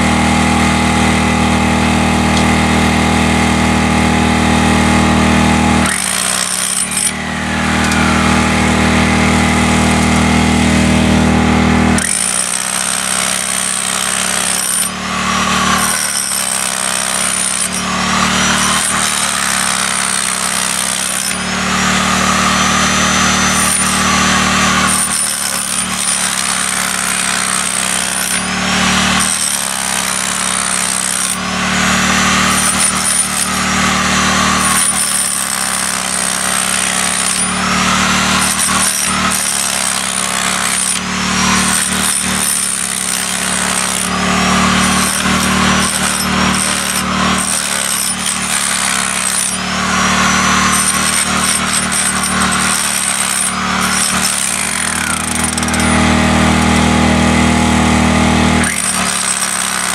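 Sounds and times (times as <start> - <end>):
hammer drill hammering into ground: 0.0 - 59.9.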